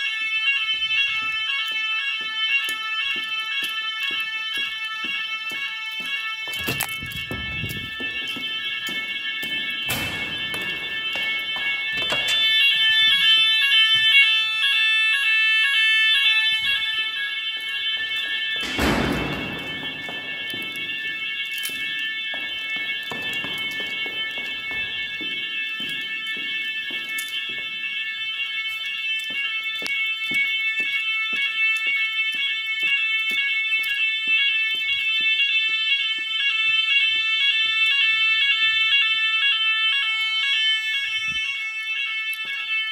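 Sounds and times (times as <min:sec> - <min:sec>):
electronic fire alarm siren: 0:00.0 - 0:42.9.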